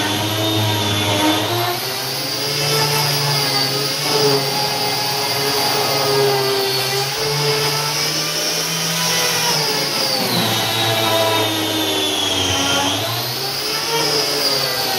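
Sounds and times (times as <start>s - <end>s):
paint stripping tool whining: 0.0s - 14.9s.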